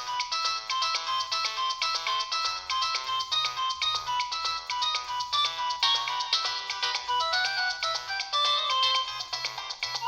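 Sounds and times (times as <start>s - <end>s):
synthesized ringtone melody: 0.0s - 10.0s.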